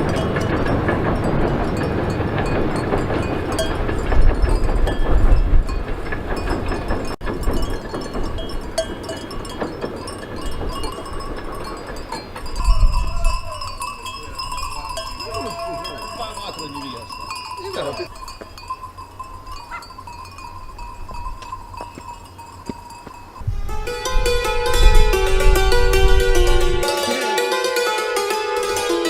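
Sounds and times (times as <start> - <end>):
livestock bells ringing: 0.0 - 29.0.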